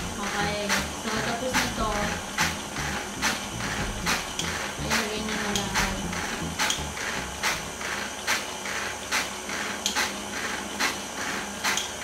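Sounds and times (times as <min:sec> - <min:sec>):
stand mixer motor hum: 0:00.0 - 0:11.6.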